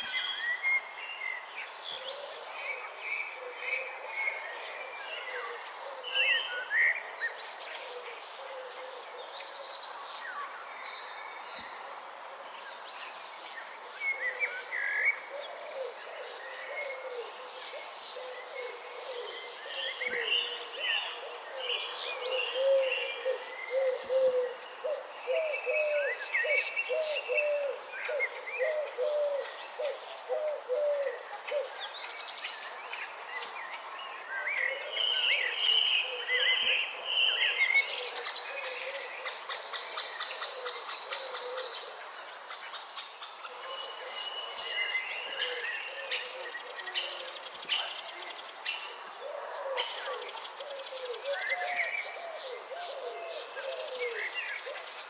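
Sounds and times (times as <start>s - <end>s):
high-pitched insect drone: 2.6s - 48.5s.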